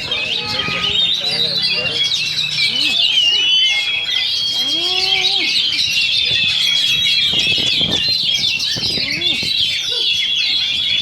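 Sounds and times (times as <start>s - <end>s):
birds singing chirps and whistles: 0.0s - 11.0s
people's voices: 0.0s - 11.0s.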